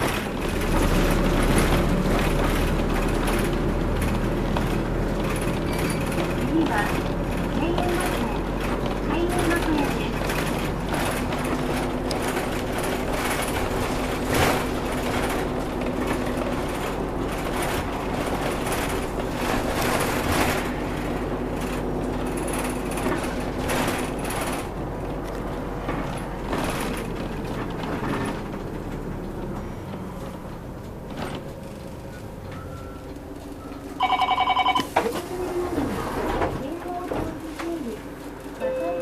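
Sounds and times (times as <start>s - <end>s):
bus engine droning: 0.0s - 39.0s
road noise: 0.0s - 39.0s.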